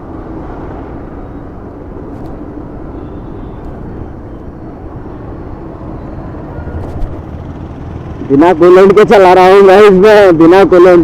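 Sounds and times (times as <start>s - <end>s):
motorcycle riding on road: 0.0s - 11.0s.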